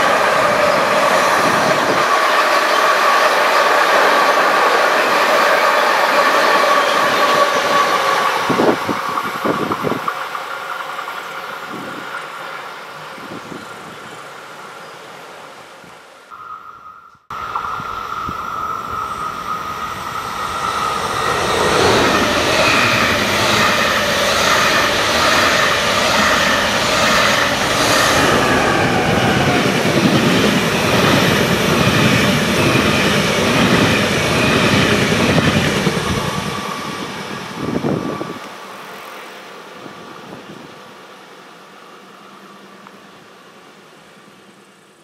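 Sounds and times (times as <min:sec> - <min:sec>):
passenger train passing: 0:00.0 - 0:44.8.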